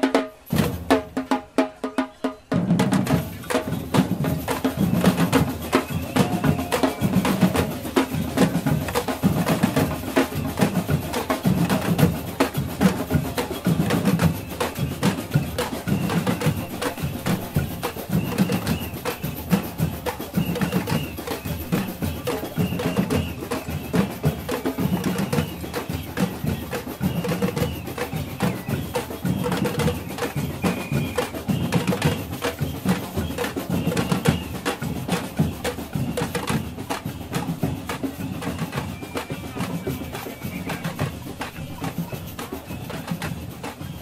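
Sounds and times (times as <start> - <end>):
street drumming: 0.0 - 44.0.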